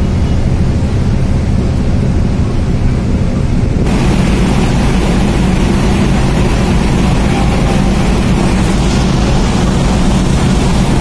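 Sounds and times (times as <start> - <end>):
diesel engines droning: 0.0 - 11.0
wind noise on microphone: 0.0 - 11.0.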